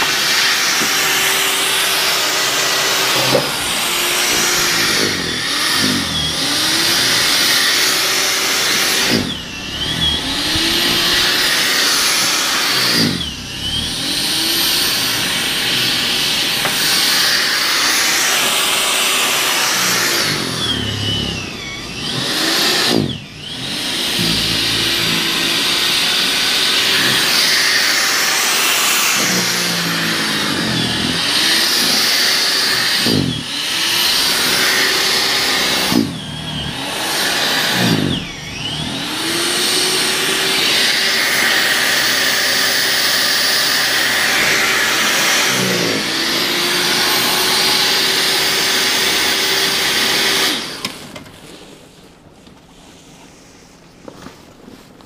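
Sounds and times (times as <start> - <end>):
snowblower engine running: 0.0 - 51.6.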